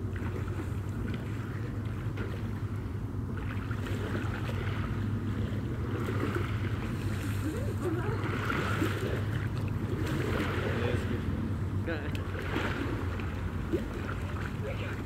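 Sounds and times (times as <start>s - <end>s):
water lapping and splashing: 0.0s - 15.0s.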